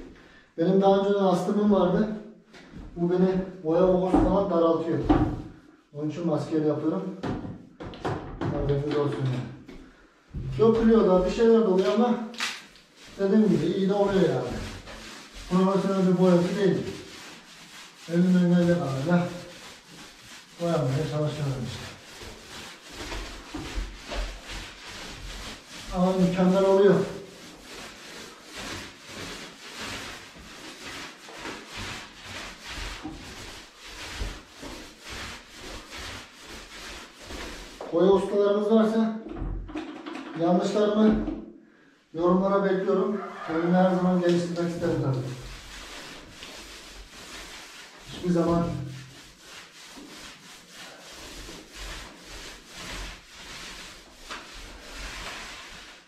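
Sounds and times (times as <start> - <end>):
paint roller swishing on wall: 1.0 - 41.4, 42.1 - 56.0.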